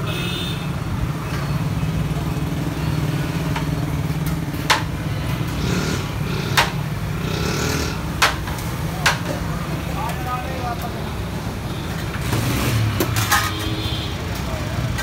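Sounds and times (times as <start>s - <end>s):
street traffic engine hum: 0.0s - 15.0s.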